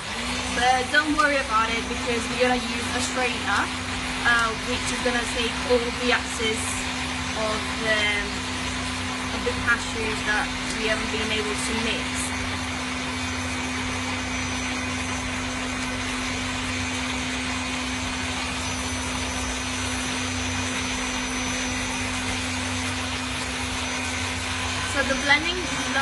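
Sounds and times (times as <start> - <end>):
electric blender motor running: 0.0 - 26.0.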